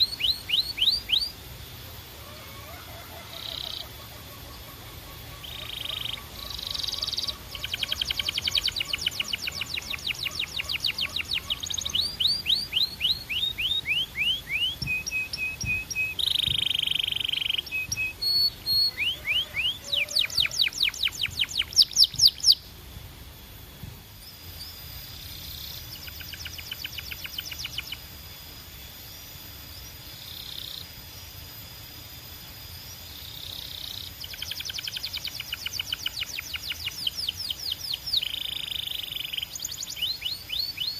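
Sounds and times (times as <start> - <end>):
canary singing trills: 0.0 - 22.8, 24.2 - 31.3, 32.1 - 40.9.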